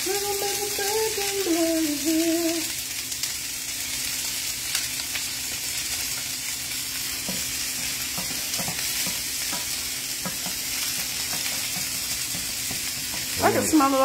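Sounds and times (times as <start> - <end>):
sprouts sizzling in oil: 0.0 - 14.0.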